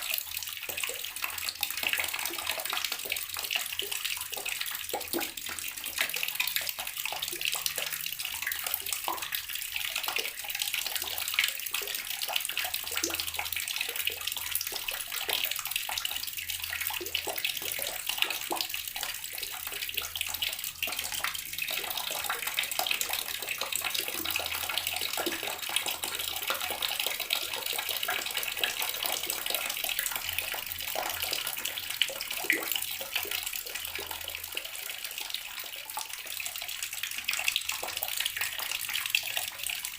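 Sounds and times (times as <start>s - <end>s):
tap water splashing into basin: 0.0s - 39.9s.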